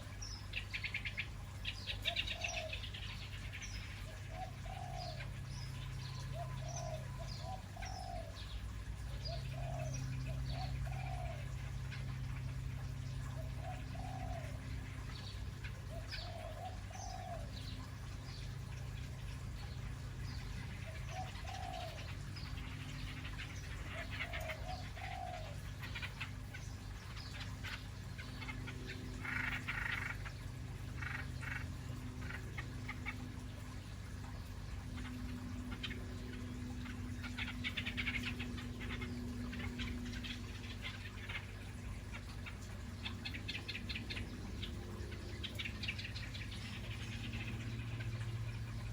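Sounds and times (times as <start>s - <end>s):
birds calling: 0.0s - 48.9s
steady low hum: 0.0s - 48.9s.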